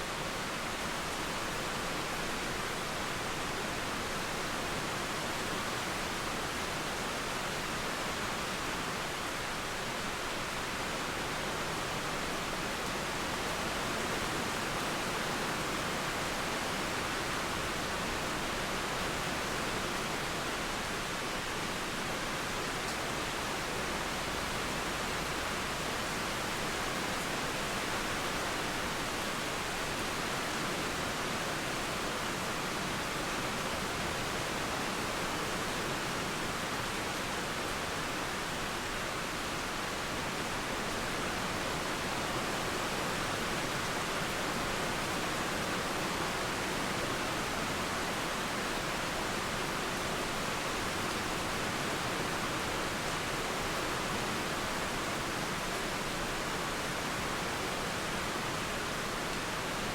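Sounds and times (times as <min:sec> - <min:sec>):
rain falling: 0:00.0 - 0:59.9
river flowing: 0:00.0 - 0:59.9.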